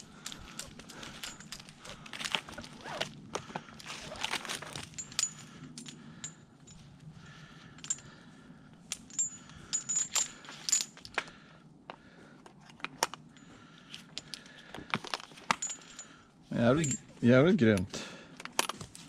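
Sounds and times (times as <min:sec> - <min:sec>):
carabiners clinking: 0:00.0 - 0:11.4, 0:12.7 - 0:19.0.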